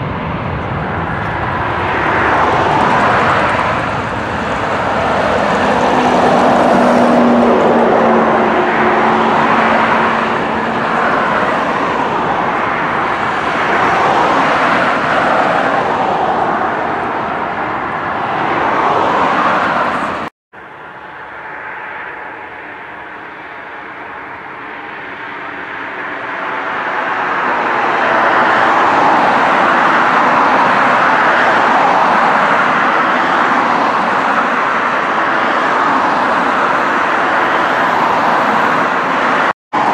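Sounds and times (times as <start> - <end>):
jet engine noise on ground: 0.0 - 39.9
jet engines roaring: 0.0 - 39.9.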